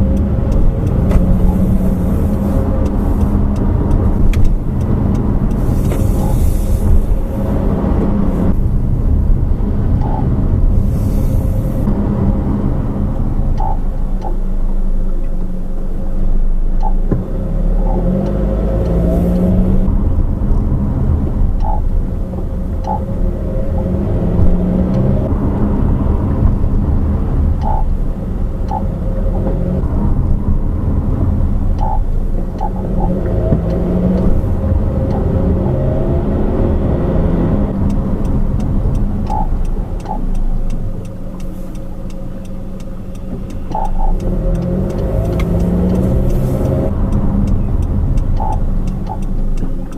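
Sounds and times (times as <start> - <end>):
car engine note: 0.0 - 49.9
road and drivetrain noise: 0.0 - 49.9.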